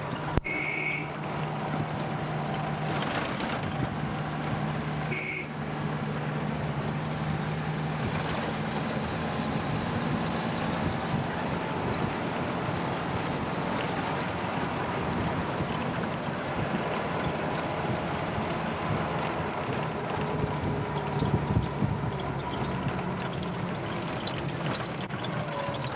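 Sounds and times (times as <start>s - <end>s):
engine hum with road noise: 0.0s - 25.9s.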